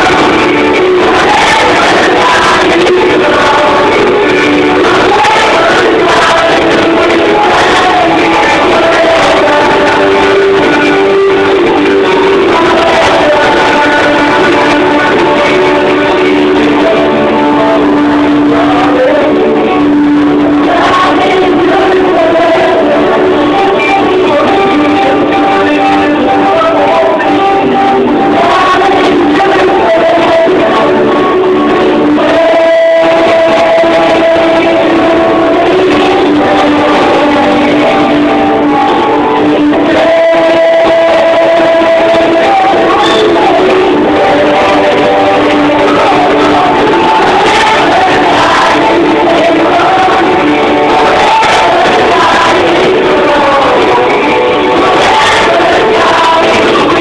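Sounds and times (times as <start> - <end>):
children singing a worship song: 0.0 - 57.0
guitar accompaniment: 0.0 - 57.0.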